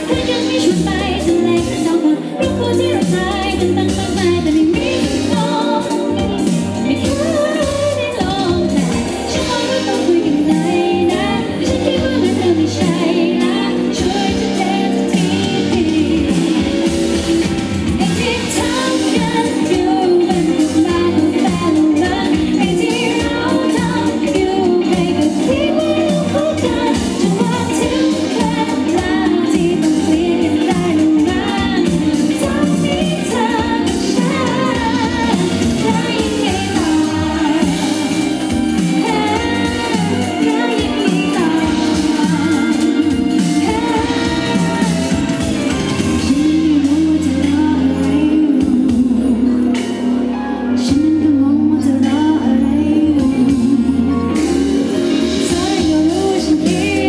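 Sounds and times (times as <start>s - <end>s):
electric guitar: 0.0s - 57.0s
keyboards: 0.0s - 57.0s
woman singing into microphone: 0.0s - 57.0s.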